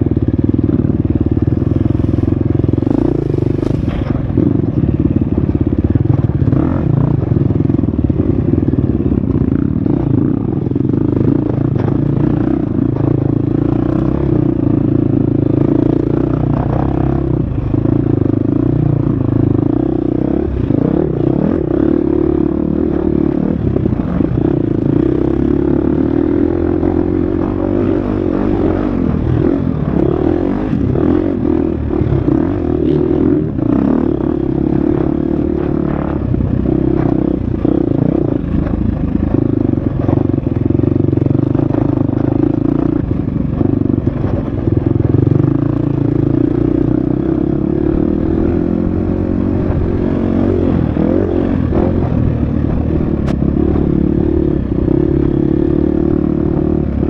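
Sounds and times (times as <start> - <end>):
dirt bike engine revving: 1.2 - 57.0.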